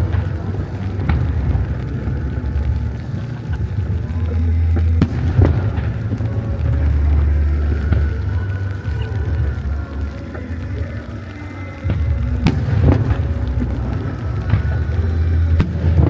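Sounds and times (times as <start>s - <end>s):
fireworks booming: 0.0s - 16.0s
fireworks sharp cracks: 0.0s - 16.0s.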